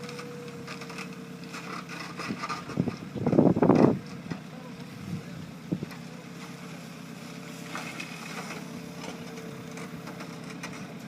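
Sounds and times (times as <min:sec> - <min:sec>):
heavy machine engine humming: 0:00.0 - 0:11.0.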